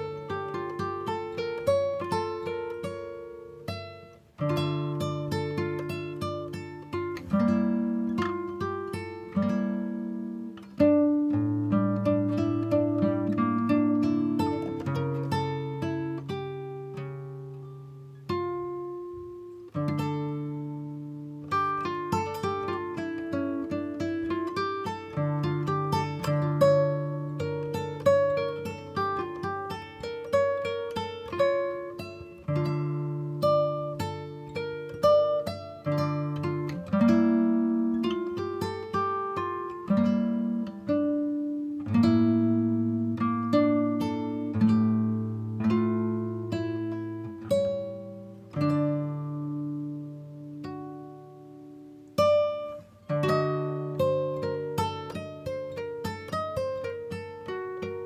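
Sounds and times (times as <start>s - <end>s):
acoustic guitar picking and strumming: 0.0s - 58.0s.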